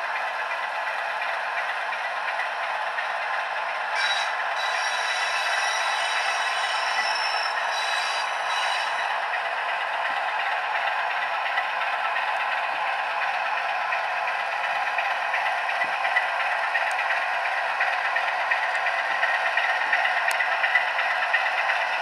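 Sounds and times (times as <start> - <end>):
model train diesel engine sound: 0.0 - 22.0.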